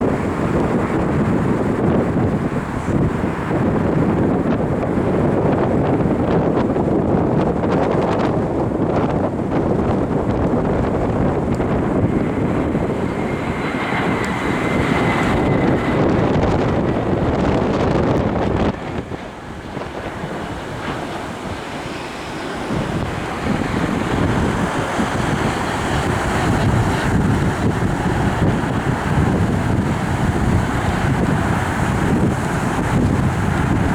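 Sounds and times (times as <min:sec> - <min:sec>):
jet engines on landing run: 0:00.0 - 0:33.9
wind noise on microphone: 0:00.0 - 0:33.9.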